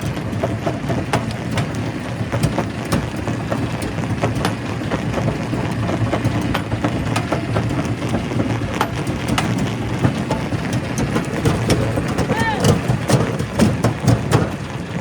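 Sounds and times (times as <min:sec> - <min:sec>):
rock crusher rumbling: 0:00.0 - 0:15.0.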